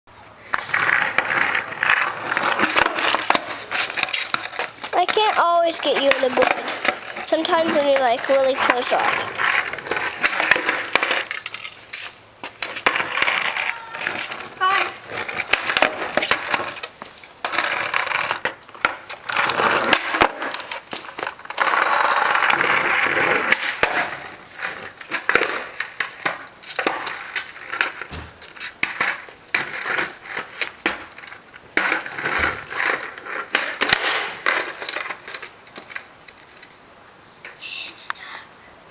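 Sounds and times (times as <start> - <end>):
skateboard wheels rolling on concrete: 0.1 - 38.9
skateboard deck clacking on concrete: 0.5 - 36.4.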